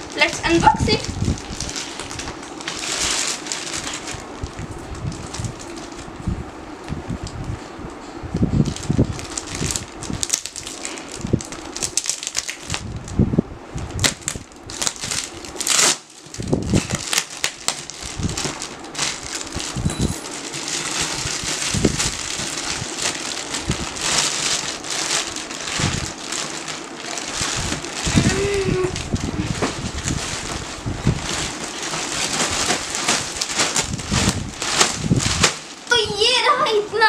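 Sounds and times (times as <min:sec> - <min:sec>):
plastic wrapping crinkling: 0:00.0 - 0:06.4, 0:08.6 - 0:13.2, 0:13.8 - 0:36.8.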